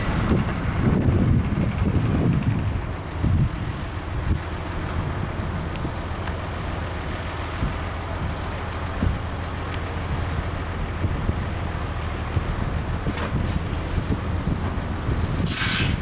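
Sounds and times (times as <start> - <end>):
low rumble of distant engines: 0.0 - 16.0
wind buffeting microphone: 0.0 - 16.0.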